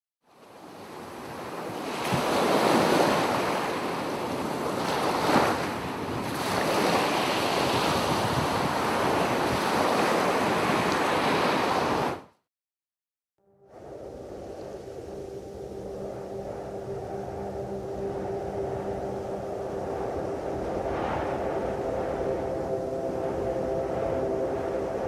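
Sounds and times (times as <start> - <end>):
ocean surf breaking: 0.9 - 12.2, 14.1 - 25.0.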